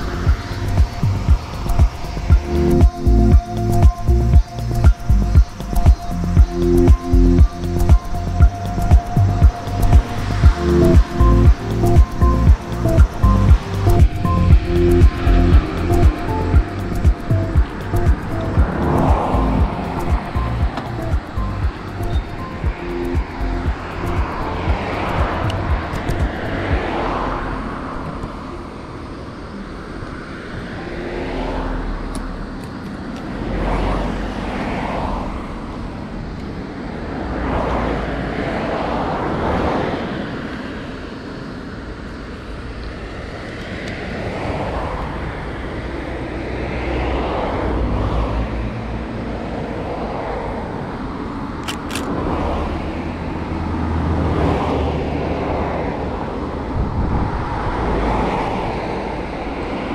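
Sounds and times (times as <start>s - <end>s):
road traffic rumble: 0.0s - 59.9s
vehicles passing: 0.0s - 59.9s.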